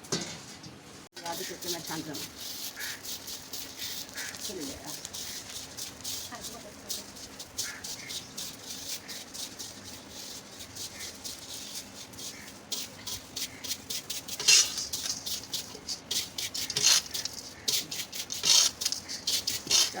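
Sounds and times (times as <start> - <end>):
grains scraped in metal pan: 1.2 - 20.0.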